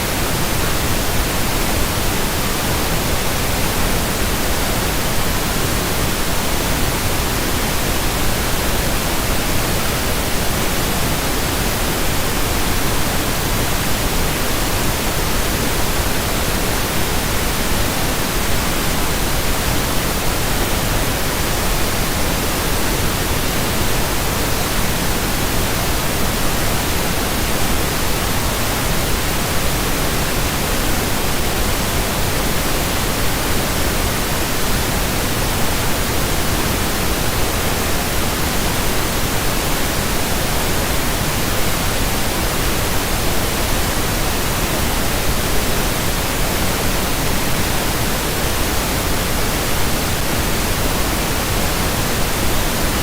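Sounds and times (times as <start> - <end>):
pink noise hiss: 0.0 - 53.0.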